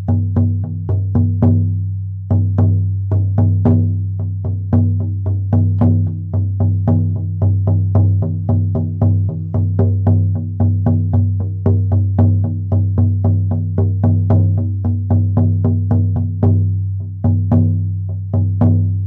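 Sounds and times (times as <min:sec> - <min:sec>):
frame drum beating: 0:00.0 - 0:19.0.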